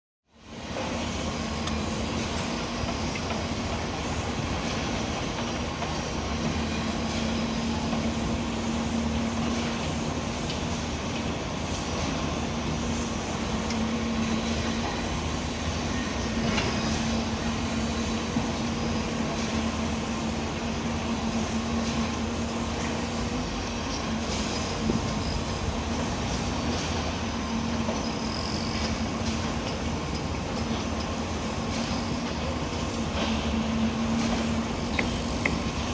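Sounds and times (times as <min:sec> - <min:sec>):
heavy machinery engine drone: 0:00.4 - 0:35.9.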